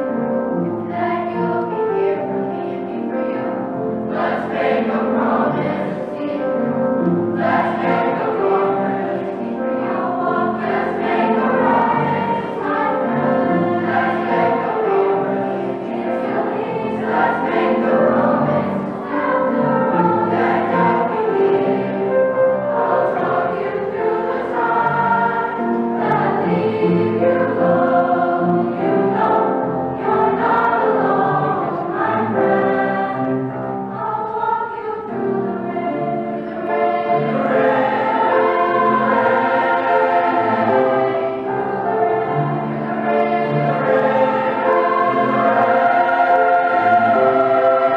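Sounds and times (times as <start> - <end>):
children's choir singing in harmony: 0.0 - 47.9.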